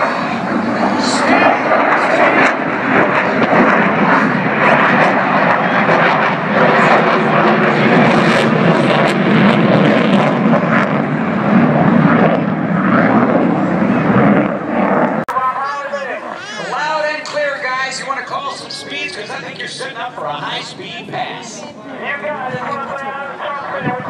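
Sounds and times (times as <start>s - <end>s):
jet engines passing overhead: 0.0s - 24.0s.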